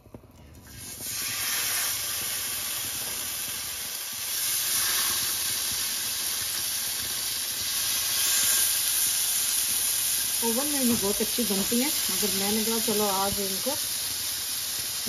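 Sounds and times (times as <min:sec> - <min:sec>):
chicken skewers sizzling in oil: 0:00.6 - 0:15.0.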